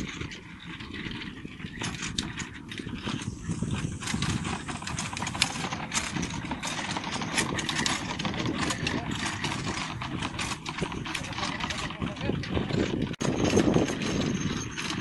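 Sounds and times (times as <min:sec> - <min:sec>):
carriage and harness rattling: 0:00.0 - 0:15.0
carriage wheels rumbling: 0:00.0 - 0:15.0
horse trotting: 0:00.2 - 0:15.0.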